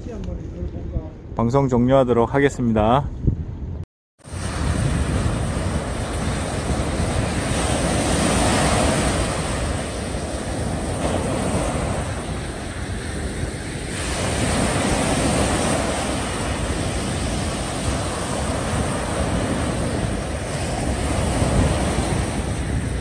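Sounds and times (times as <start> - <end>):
wind rumbling on microphone: 2.4 - 23.0
small waves breaking on beach: 4.2 - 23.0.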